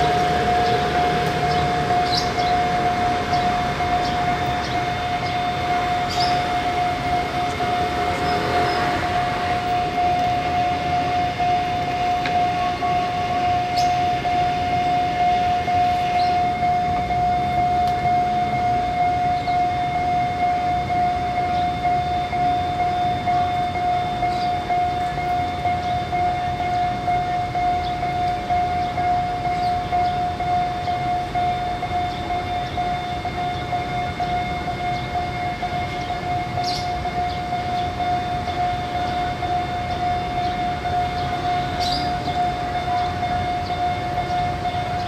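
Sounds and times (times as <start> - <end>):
level crossing alarm tone: 0.0 - 45.0
road traffic rumble: 0.0 - 45.0.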